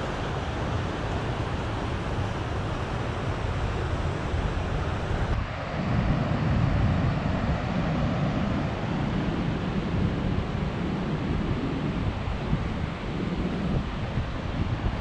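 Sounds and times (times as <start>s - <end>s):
rushing water roar: 0.0s - 15.0s.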